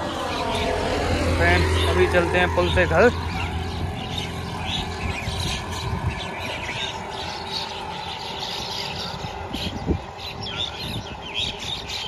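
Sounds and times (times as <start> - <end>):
flock of birds chirping: 0.0 - 12.0
steady low rumble: 0.0 - 12.0.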